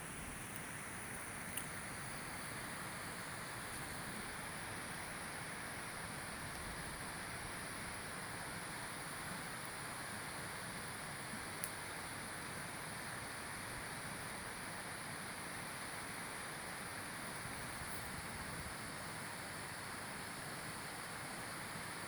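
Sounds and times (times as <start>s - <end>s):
campfire hissing: 0.0s - 22.0s.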